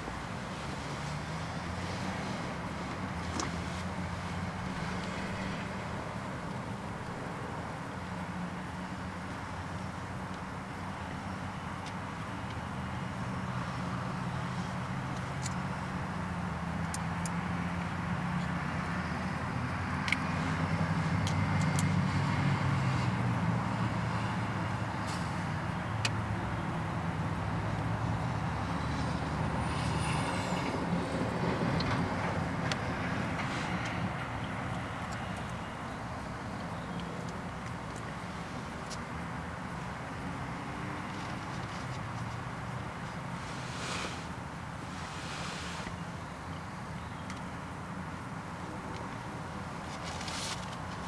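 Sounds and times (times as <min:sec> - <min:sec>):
passing traffic hum: 0:00.0 - 0:51.0.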